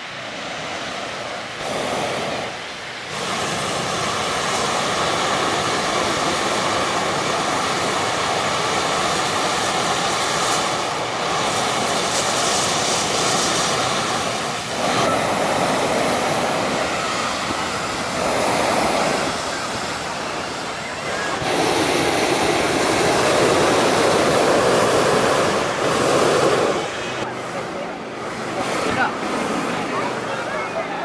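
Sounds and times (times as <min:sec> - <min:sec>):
inflator fans roaring: 0:00.0 - 0:31.0
propane burners roaring: 0:00.0 - 0:31.0.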